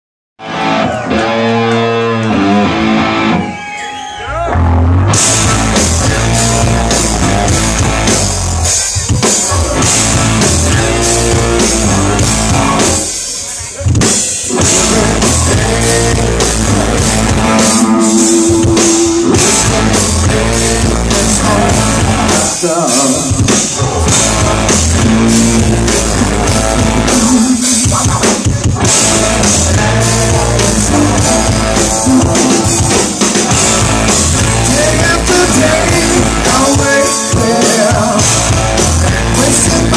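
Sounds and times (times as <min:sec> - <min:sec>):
bass guitar: 0:00.4 - 0:39.9
drum kit: 0:00.4 - 0:39.9
electric guitar riff: 0:00.4 - 0:39.9.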